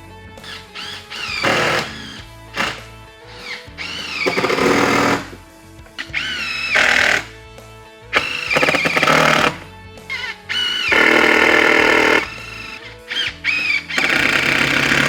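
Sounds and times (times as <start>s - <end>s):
background music: 0.0s - 15.0s
power drill driving screws: 0.4s - 7.3s, 8.1s - 15.0s.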